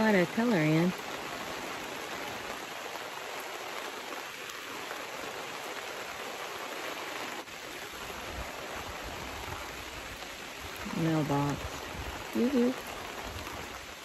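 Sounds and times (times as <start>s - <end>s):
heavy rain on tent: 0.0s - 14.0s.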